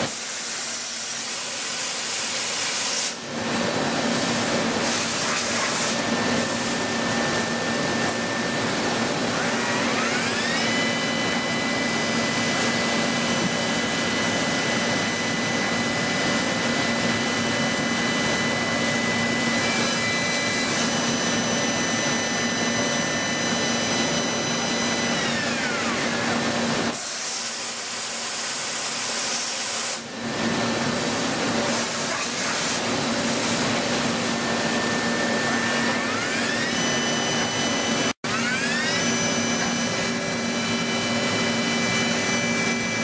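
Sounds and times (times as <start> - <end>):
machine tool whine: 0.0 - 43.0.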